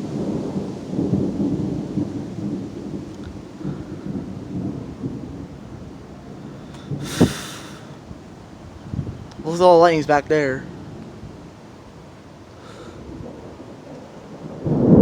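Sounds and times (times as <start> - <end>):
thunder rumbling: 0.0 - 9.5, 10.6 - 15.0.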